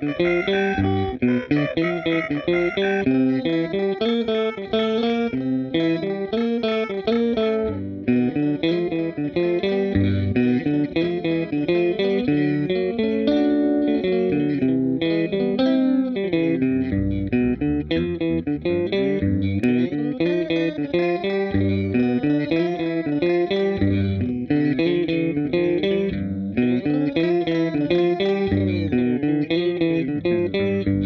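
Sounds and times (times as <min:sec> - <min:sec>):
electric guitar with pitch shifting: 0:00.0 - 0:31.0.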